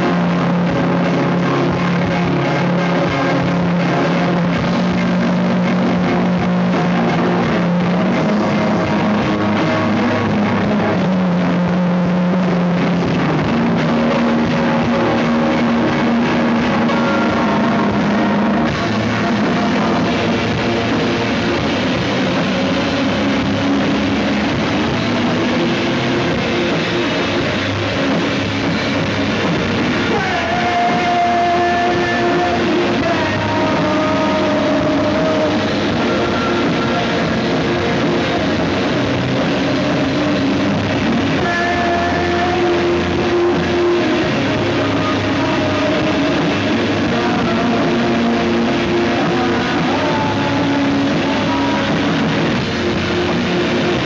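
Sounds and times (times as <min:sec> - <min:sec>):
drum kit: 0:00.0 - 0:54.0
electric guitar: 0:00.0 - 0:54.0
person singing: 0:00.0 - 0:54.0.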